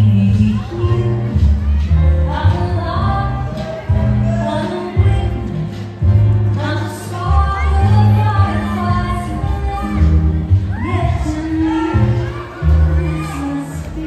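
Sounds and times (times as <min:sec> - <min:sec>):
slow foxtrot dance music: 0:00.0 - 0:14.0.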